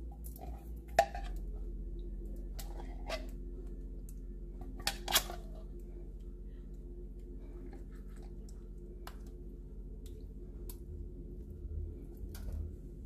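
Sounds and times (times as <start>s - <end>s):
steady low hum: 0.0s - 13.0s
utensil scraping and squishing soup: 0.0s - 13.0s.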